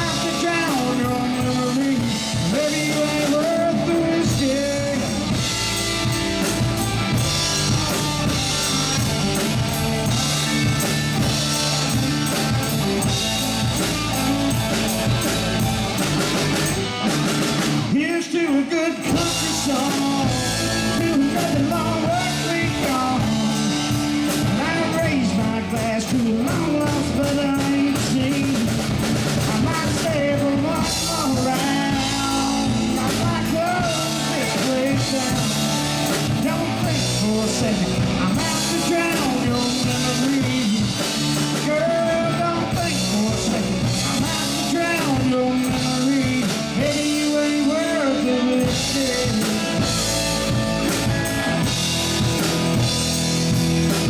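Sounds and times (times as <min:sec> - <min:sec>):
drum kit: 0:00.0 - 0:54.0
electric guitar: 0:00.0 - 0:54.0
live country-rock band: 0:00.0 - 0:54.0.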